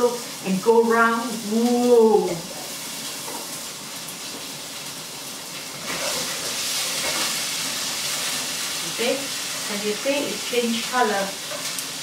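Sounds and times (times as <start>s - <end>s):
meatballs sizzling in a frying pan: 0.0s - 12.0s.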